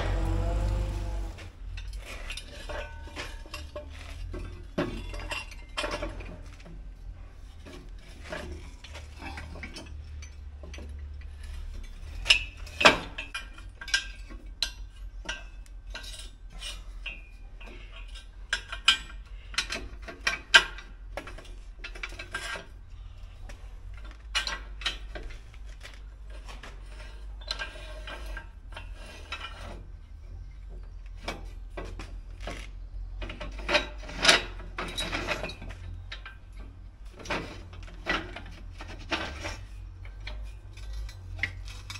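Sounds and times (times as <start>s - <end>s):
metal clinks and scrapes: 0.0s - 30.6s, 31.2s - 41.9s.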